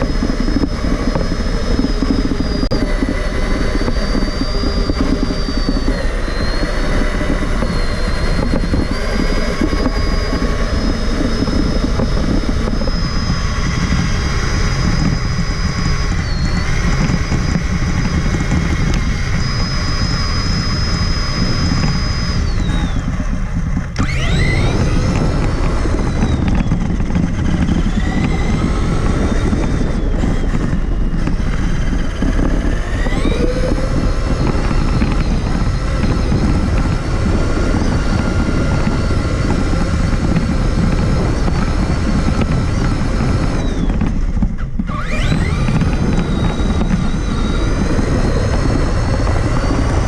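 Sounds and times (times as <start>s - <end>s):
chassis and tyres rumbling: 0.0s - 50.0s
electric motor and gears whining: 0.0s - 50.0s.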